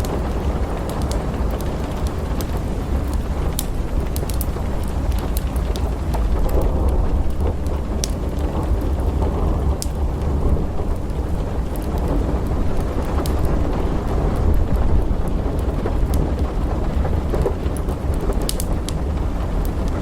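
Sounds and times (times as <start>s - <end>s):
heavy rain: 0.0s - 20.0s
low rolling thunder rumble: 0.0s - 20.0s
wood fire crackling: 0.0s - 20.0s.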